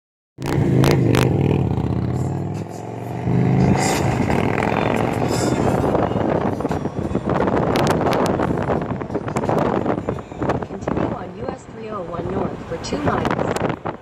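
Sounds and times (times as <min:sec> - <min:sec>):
motorcycle engine on highway: 0:00.4 - 0:14.0.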